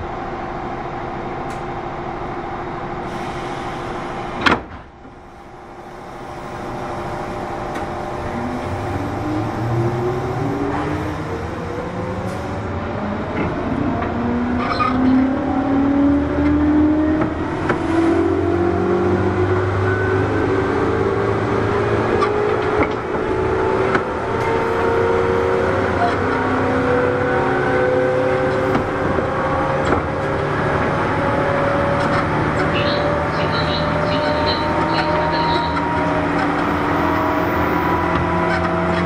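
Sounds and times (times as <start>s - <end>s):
wheels rumbling on track: 0.0s - 39.0s
traction motors whining: 5.8s - 39.0s.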